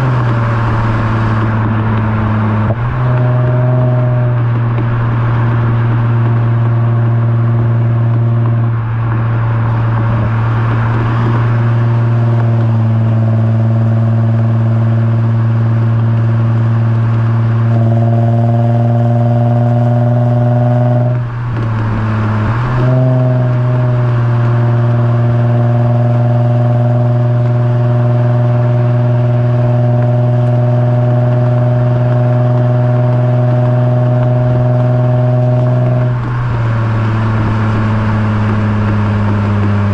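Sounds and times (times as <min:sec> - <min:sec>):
loud exhaust drone: 0:00.0 - 0:39.9.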